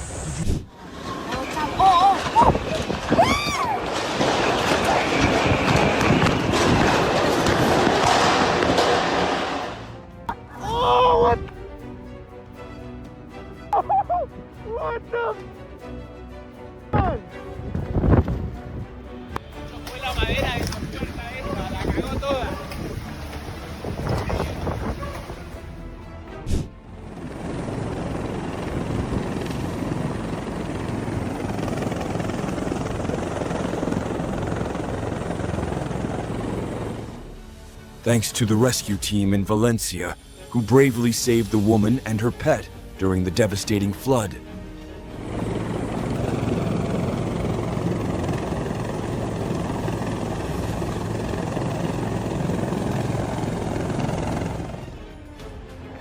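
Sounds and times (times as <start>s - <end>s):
helicopter rotor and engine drone: 0.0s - 10.3s, 15.4s - 56.0s.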